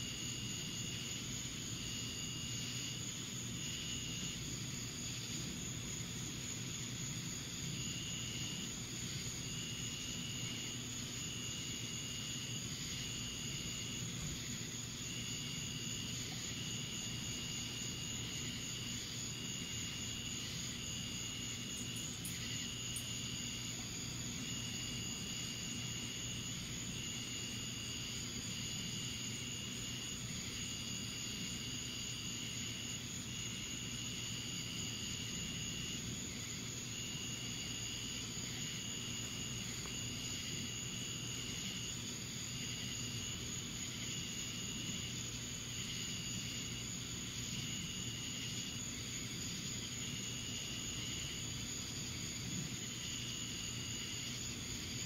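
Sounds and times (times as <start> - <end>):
low hum and hiss: 0.0 - 55.0
night insects calling: 0.0 - 55.0.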